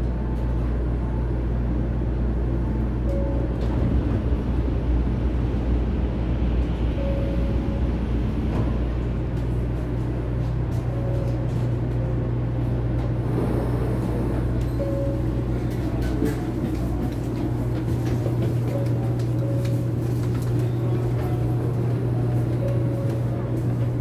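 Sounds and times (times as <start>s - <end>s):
train interior hum and rumble: 0.0s - 24.0s.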